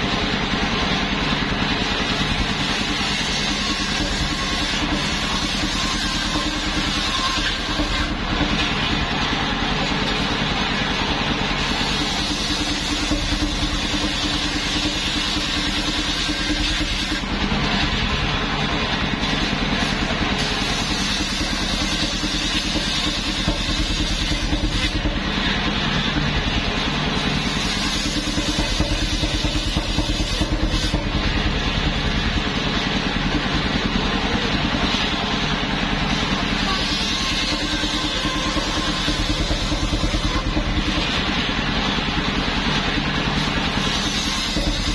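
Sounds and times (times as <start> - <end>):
circular saw cutting plank: 0.0 - 44.9
sawmill engine running: 0.0 - 44.9.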